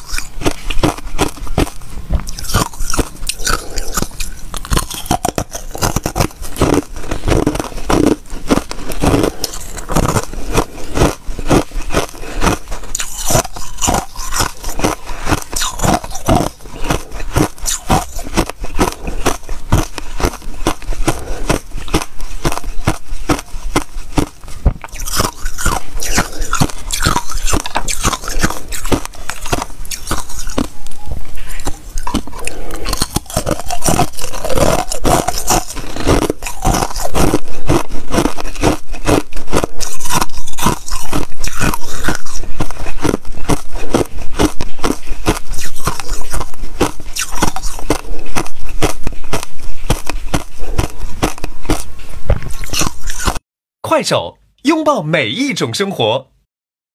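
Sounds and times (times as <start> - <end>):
chewing ice crunching: 0.0 - 53.4.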